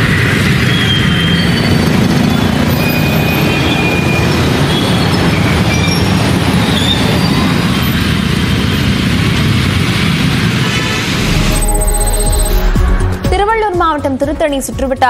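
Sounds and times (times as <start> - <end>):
motorbike engines: 0.0 - 12.6.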